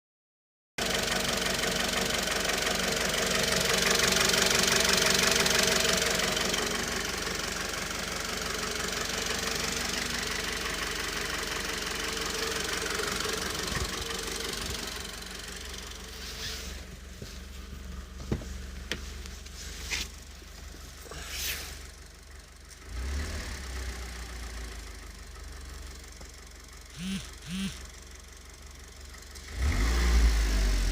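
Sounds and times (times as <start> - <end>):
car engine knocking: 0.8 - 21.2, 21.8 - 29.4.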